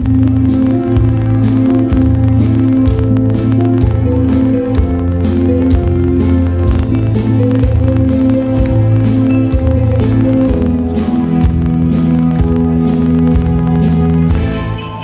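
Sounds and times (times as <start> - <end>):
instrumental trot music: 0.0 - 15.0.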